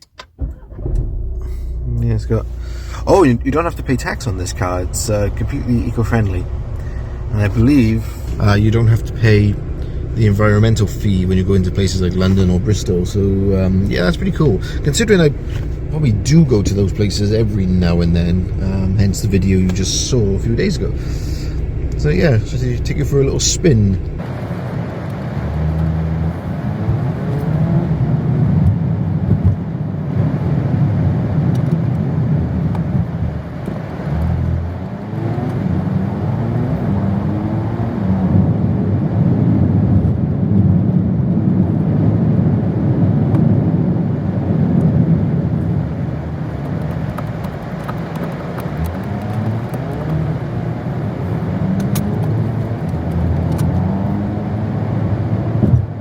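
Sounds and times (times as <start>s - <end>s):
car road rumble: 0.0s - 56.0s.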